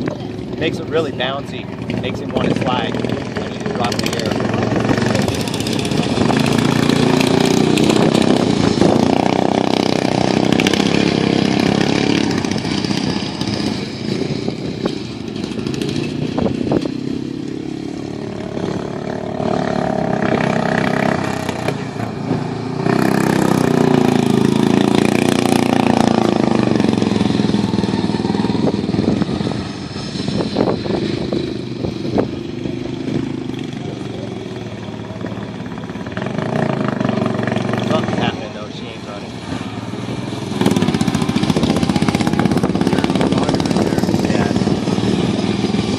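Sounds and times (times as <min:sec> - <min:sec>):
lawn mower engines revving: 0:00.0 - 0:45.9.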